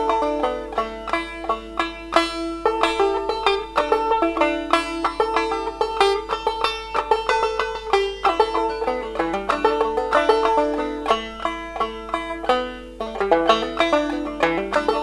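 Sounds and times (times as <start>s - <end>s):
fast plucked string music: 0.0s - 15.0s.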